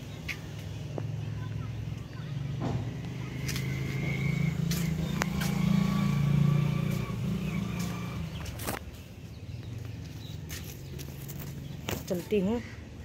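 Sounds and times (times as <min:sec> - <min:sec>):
vehicle engine passing by: 0:00.8 - 0:11.8.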